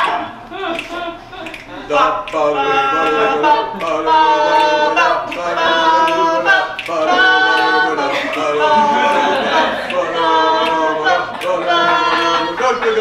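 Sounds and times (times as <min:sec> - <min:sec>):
a cappella group singing harmony: 0:00.0 - 0:13.0.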